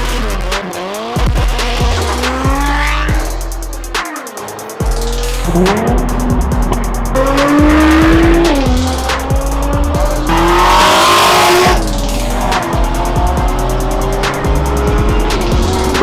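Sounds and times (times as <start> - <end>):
background music with steady beat: 0.0 - 16.0
car engines revving: 0.0 - 16.0.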